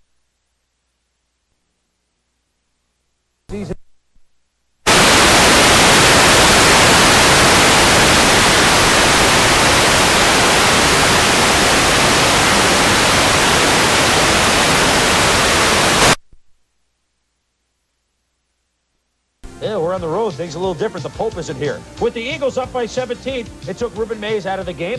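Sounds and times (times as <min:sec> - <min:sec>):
television static hiss: 0:00.0 - 0:24.9.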